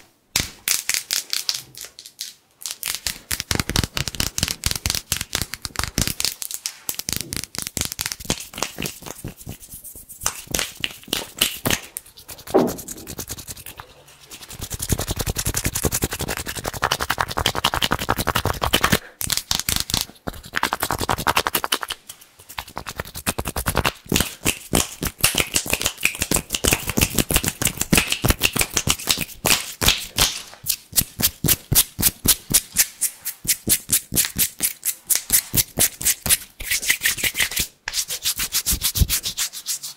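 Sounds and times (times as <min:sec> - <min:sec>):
hands rubbing and tapping: 0:00.4 - 0:39.9.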